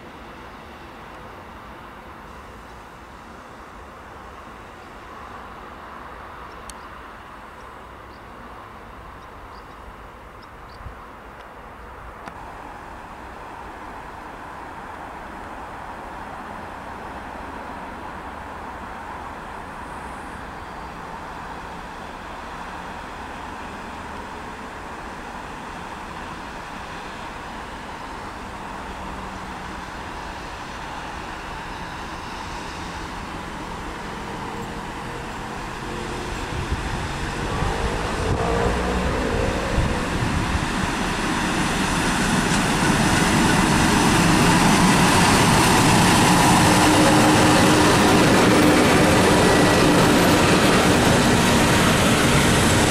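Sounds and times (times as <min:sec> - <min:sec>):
diesel locomotive engine: 0:00.0 - 0:52.9
train wheels on rails: 0:00.0 - 0:52.9.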